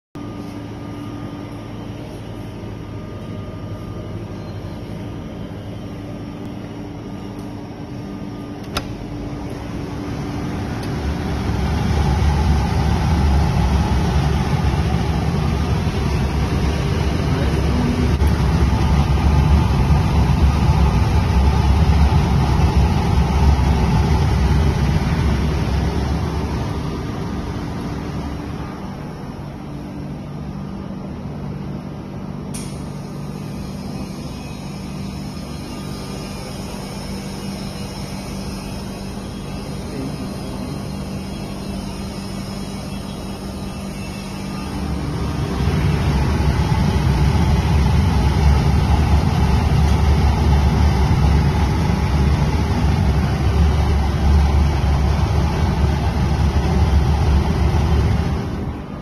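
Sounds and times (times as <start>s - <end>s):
vehicle engine rumbling: 0.2s - 59.0s.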